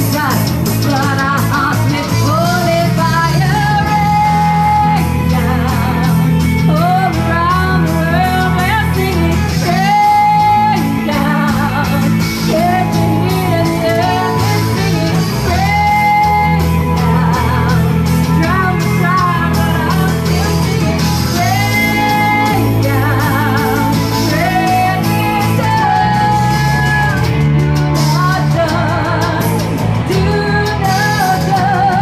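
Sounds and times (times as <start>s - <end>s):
bass guitar: 0.0s - 32.0s
drums: 0.0s - 32.0s
electric guitars: 0.0s - 32.0s
woman singing lead: 0.0s - 32.0s.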